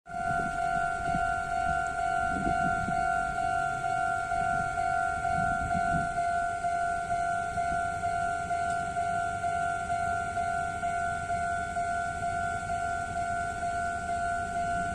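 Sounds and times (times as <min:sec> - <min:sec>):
level crossing warning bell: 0:00.1 - 0:14.9.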